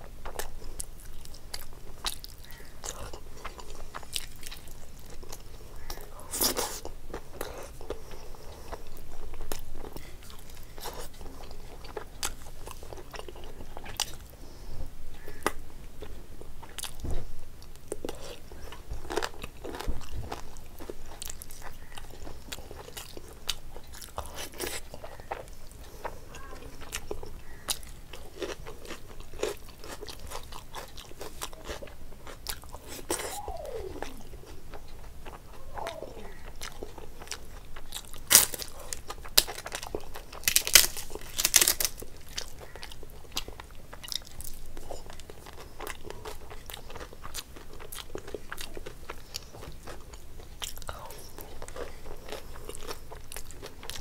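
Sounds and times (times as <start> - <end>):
food crunching: 0.0 - 14.4, 15.1 - 54.0
person chewing food: 0.0 - 54.0.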